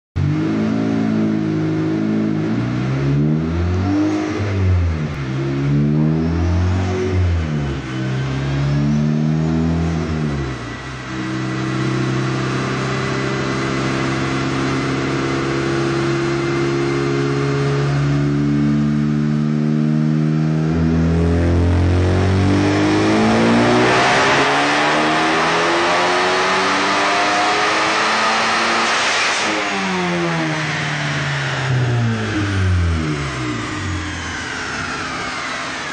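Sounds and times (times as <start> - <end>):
turbocharged car engine revving: 0.2 - 35.9.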